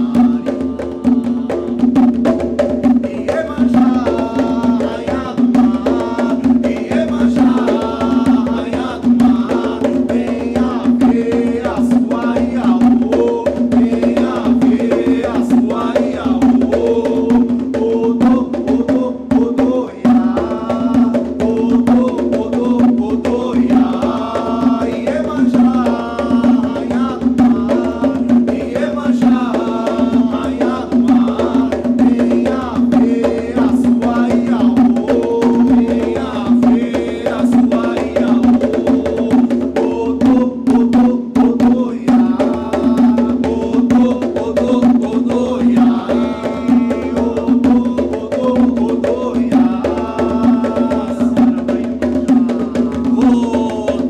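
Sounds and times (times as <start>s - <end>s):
hand drums beating: 0.0s - 54.0s
men singing a chant: 0.0s - 54.0s.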